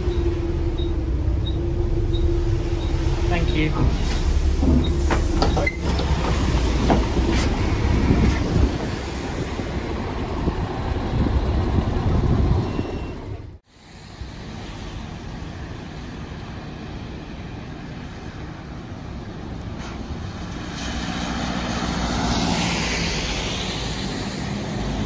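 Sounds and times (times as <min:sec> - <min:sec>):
bus engine rumbling: 0:00.0 - 0:25.0
road noise: 0:00.0 - 0:25.0.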